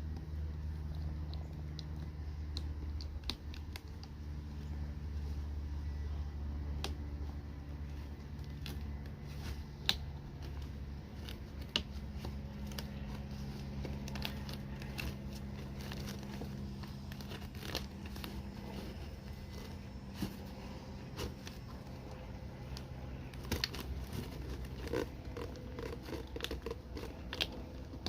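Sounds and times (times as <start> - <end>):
steady low hum: 0.0 - 28.0
cardboard and plastic packaging rustling: 3.1 - 28.0.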